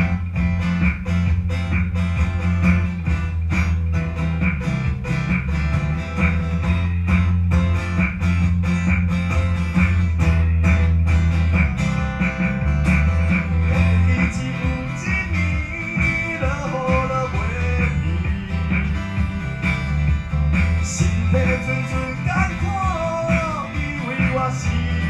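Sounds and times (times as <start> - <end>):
electric bass: 0.0 - 25.0
percussion beat: 0.0 - 25.0
strummed acoustic guitar: 0.0 - 25.0.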